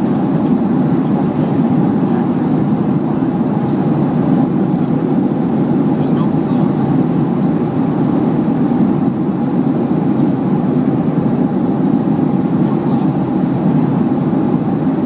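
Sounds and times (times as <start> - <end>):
jet cabin low rumble: 0.0 - 15.0.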